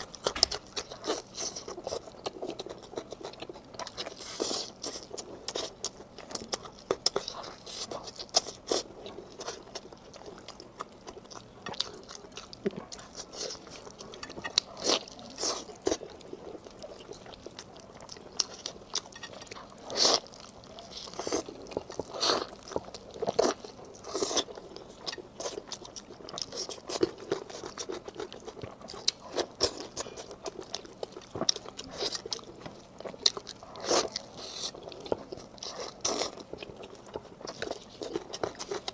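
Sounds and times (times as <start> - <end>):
chewing and biting ribs: 0.0 - 38.9.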